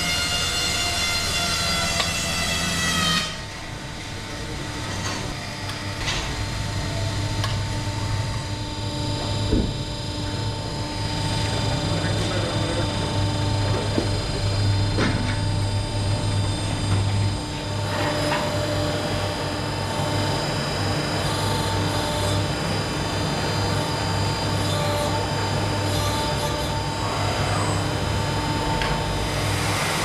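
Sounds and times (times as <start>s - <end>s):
band saw machine humming and whining: 0.0s - 30.0s.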